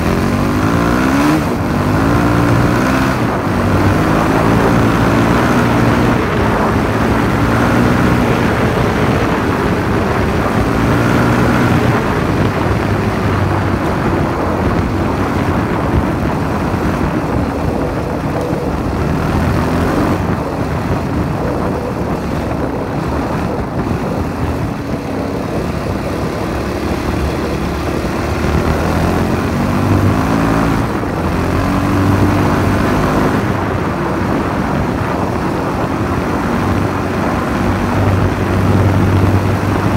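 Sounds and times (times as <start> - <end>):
dirt bike engine revving: 0.0 - 39.9
wind rush on microphone: 0.0 - 39.9.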